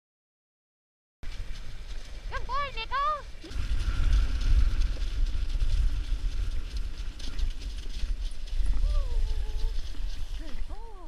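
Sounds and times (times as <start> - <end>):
sled runners scraping snow: 1.2 - 11.0
sled vibration rumble: 1.2 - 11.0
wind on microphone: 1.3 - 11.0.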